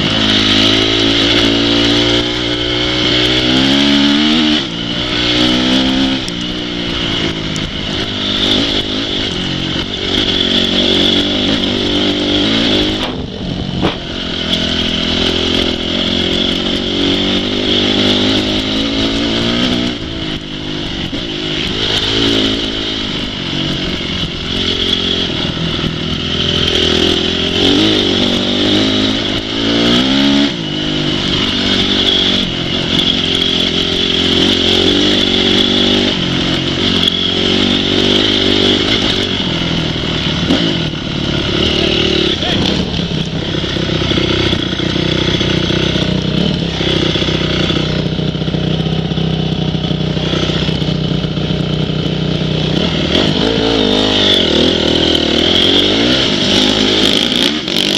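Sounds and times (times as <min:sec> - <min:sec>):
off-road motorcycle engines revving: 0:00.0 - 0:57.9.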